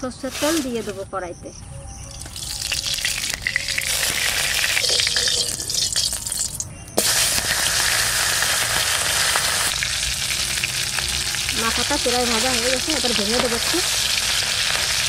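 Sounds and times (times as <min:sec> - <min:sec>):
oil crackling: 0:02.1 - 0:15.0
fish frying sizzle: 0:02.2 - 0:15.0.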